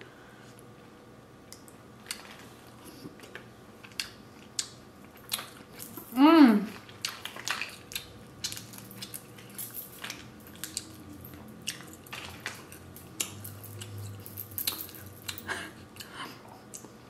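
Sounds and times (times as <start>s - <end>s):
chewing and wet squishing: 1.5s - 6.1s, 6.7s - 17.0s.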